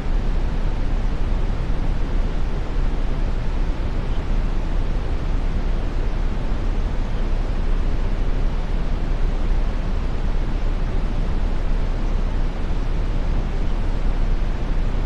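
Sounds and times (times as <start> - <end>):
brown noise hiss: 0.0 - 15.0.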